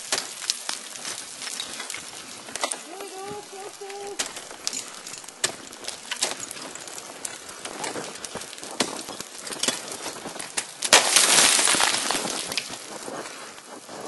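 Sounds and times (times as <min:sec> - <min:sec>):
ice axe striking ice: 0:00.0 - 0:13.0.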